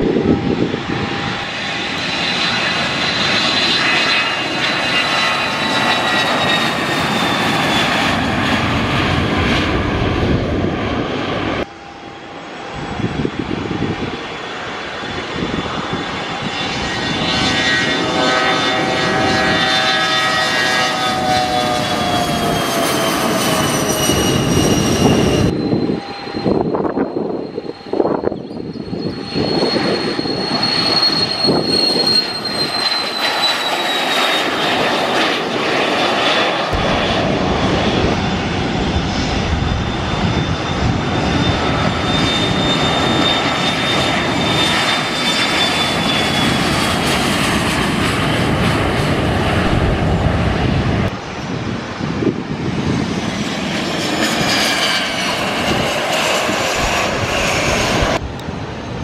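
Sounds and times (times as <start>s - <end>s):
high-pitched turbine whine: 0.0s - 59.0s
jet engines running: 0.0s - 59.0s
passing jet: 0.0s - 59.0s.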